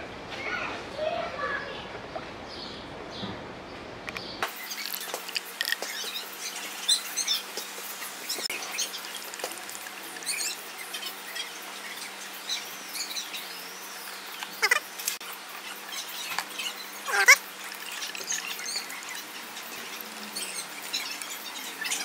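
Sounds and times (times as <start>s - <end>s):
birds chirping: 0.4s - 22.0s.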